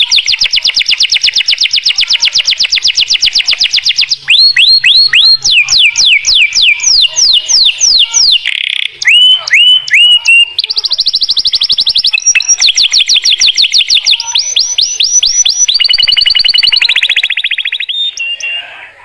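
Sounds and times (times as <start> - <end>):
canary singing trills: 0.0 - 19.0.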